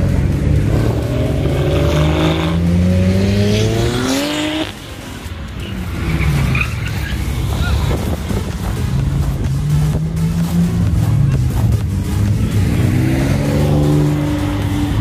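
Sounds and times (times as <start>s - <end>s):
car engine accelerating hard: 0.0s - 5.0s, 5.8s - 15.0s.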